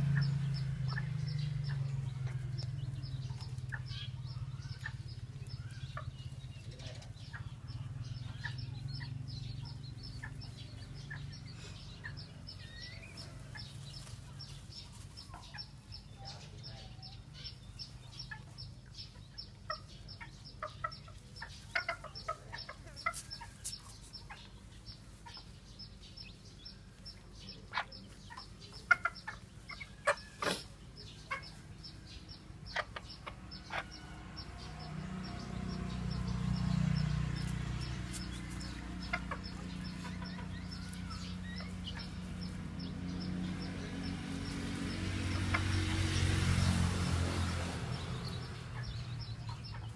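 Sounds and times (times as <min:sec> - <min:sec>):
hen clucking: 0:00.0 - 0:46.3, 0:47.9 - 0:49.9.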